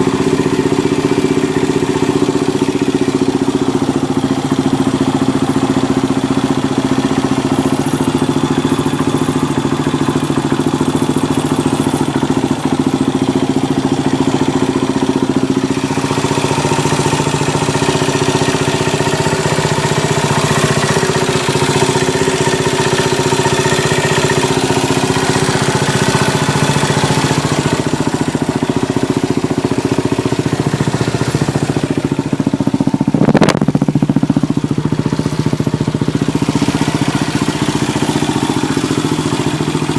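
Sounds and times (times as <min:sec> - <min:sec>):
motorcycle engine rev: 0:00.0 - 0:39.9
motorcycle engine running: 0:00.0 - 0:39.9.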